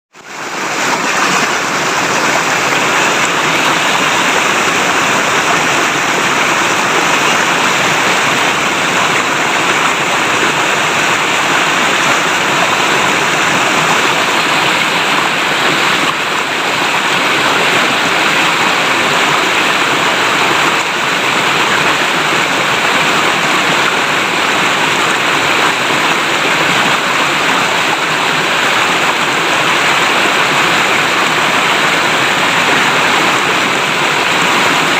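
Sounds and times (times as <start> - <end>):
river water flowing over rocks: 0.1 - 34.9.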